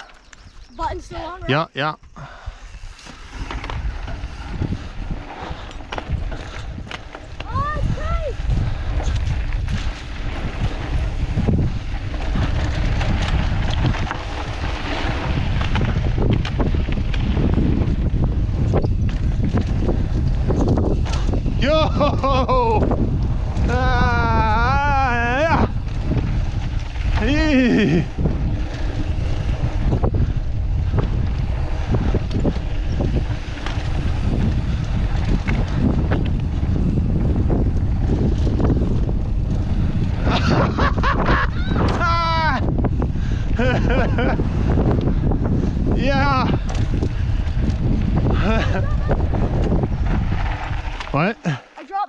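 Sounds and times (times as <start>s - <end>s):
bike clicks and rattles: 0.0s - 1.3s, 2.0s - 51.8s
wind buffeting microphone: 0.0s - 51.6s
tyres rumbling on dirt: 0.0s - 51.8s.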